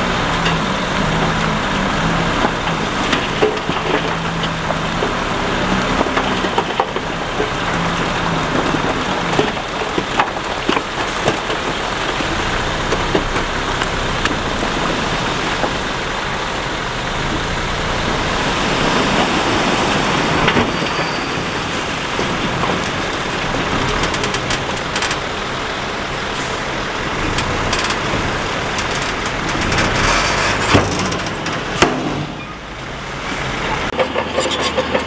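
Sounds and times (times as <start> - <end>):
heavy machinery engine hum: 0.0 - 35.0.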